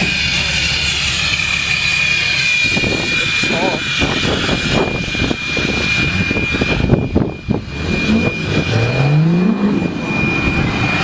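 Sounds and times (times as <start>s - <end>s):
diesel truck engines running: 0.0s - 11.0s
engine revving: 0.0s - 11.0s
steady high whine: 0.0s - 11.0s.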